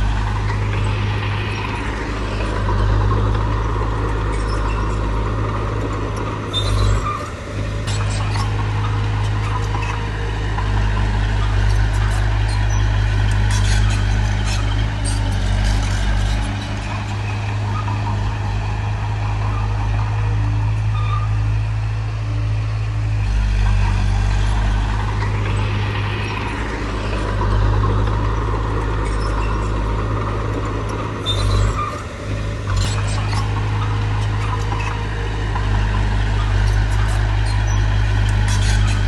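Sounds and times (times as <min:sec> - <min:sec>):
diesel engine of heavy machinery: 0:00.0 - 0:39.0.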